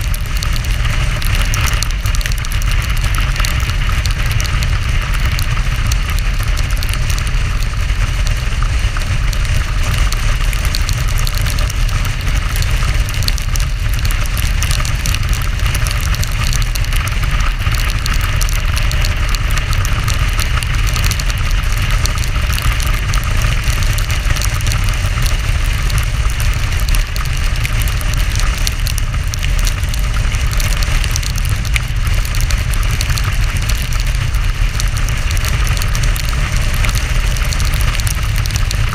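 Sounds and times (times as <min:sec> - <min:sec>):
tyres on wet road: 0:00.0 - 0:38.9
wind rush on microphone: 0:00.0 - 0:38.9.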